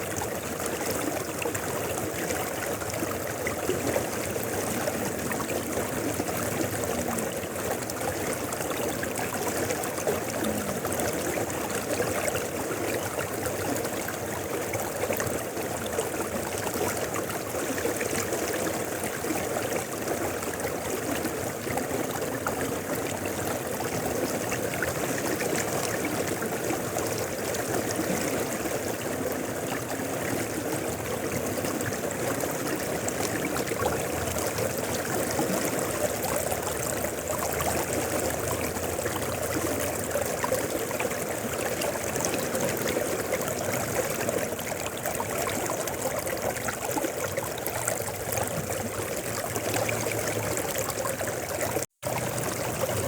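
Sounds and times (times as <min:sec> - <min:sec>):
river flowing over rocks: 0:00.0 - 0:53.0.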